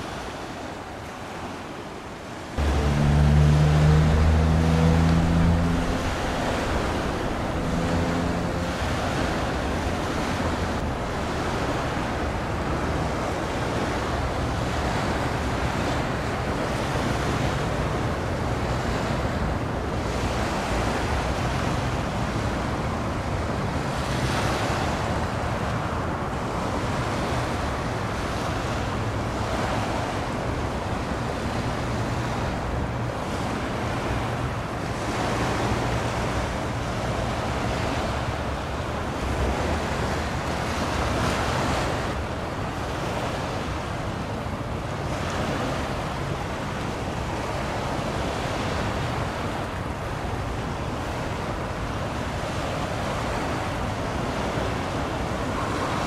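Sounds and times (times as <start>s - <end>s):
water at shoreline: 0.0s - 56.0s.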